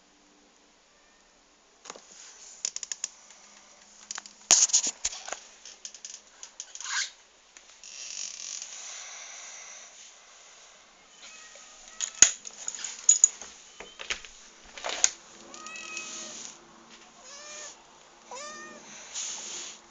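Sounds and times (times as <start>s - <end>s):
soft steady scraping hiss: 0.0s - 19.9s.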